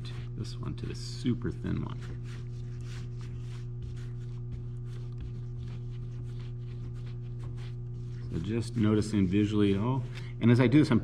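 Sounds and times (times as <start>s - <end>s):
hands rolling clay: 0.0s - 11.0s.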